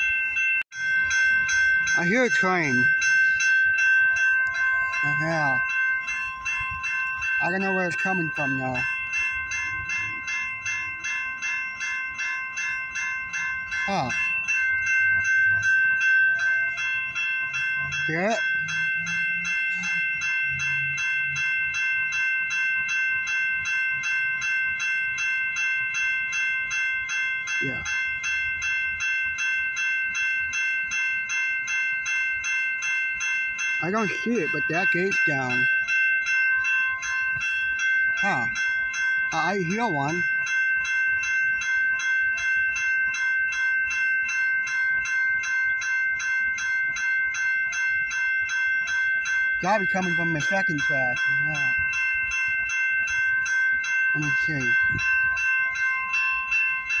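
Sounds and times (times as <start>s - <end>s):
railroad crossing bell ringing: 0.0s - 57.0s.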